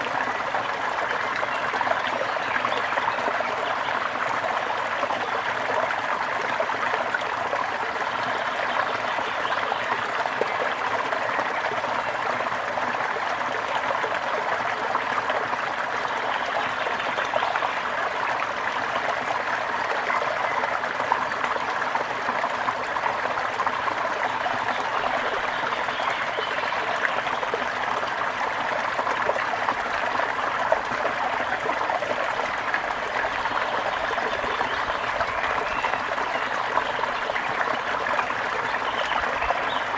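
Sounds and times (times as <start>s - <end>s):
brook trickling over stones: 0.0s - 39.9s.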